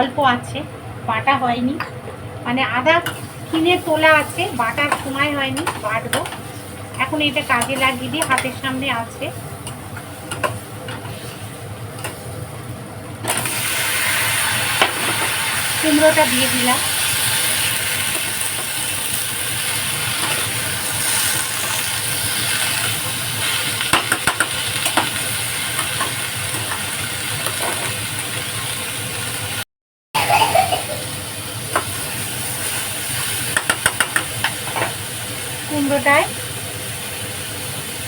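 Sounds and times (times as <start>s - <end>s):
food sizzling in hot oil: 2.8s - 12.5s, 13.2s - 29.6s, 30.8s - 38.0s.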